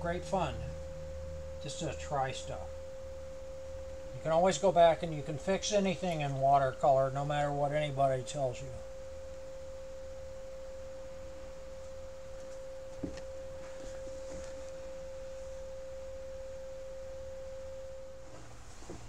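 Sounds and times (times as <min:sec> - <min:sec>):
steady pure tone: 0:00.0 - 0:19.0.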